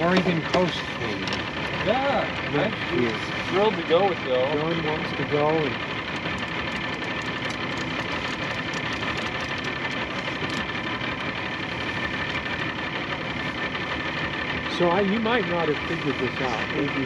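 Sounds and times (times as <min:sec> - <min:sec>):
boat motor idling: 0:00.0 - 0:17.0.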